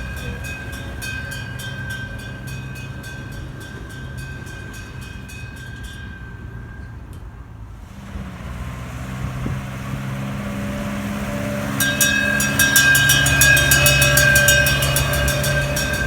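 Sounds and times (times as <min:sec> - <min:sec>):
steady train whine: 0:00.0 - 0:07.9, 0:10.3 - 0:16.0
train wheels clicking over rail joints: 0:00.0 - 0:08.4, 0:09.1 - 0:16.0
low engine hum: 0:00.0 - 0:16.0.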